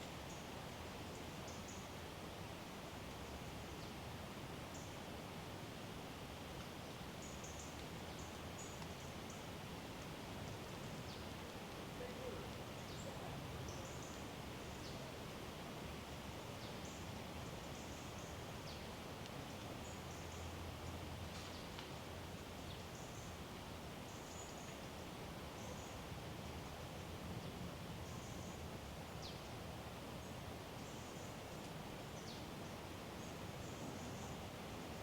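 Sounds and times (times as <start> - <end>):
woodland background hush: 0.0 - 35.0.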